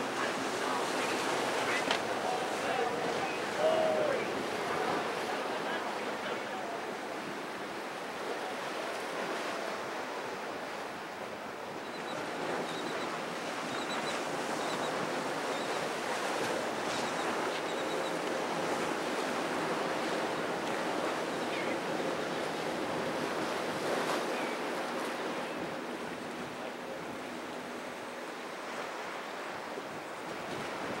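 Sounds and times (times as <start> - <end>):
faint outboard engine drone: 0.0 - 31.0
surf and choppy water: 0.0 - 31.0.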